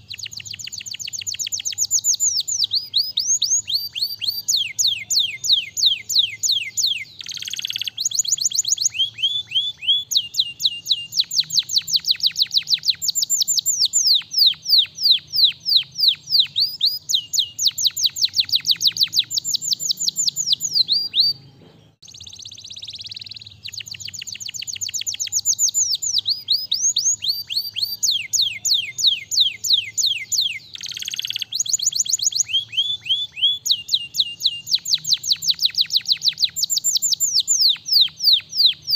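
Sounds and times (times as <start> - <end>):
canary trilling: 0.0 - 38.9.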